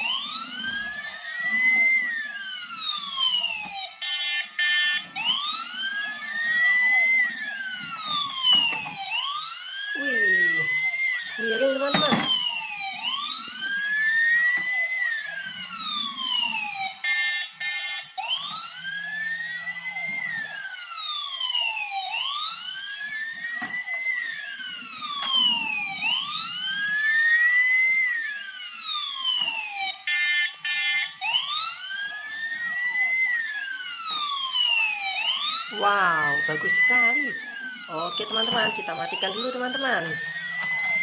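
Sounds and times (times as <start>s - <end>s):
quick falling siren sweeps: 0.0s - 41.0s
toy siren wailing: 0.0s - 41.0s.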